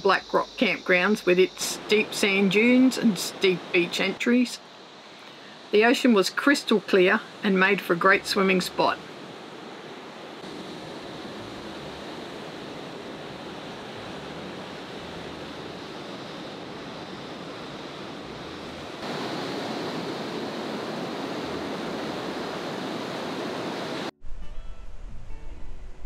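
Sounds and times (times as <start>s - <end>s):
waves washing up a beach: 0.7s - 24.1s.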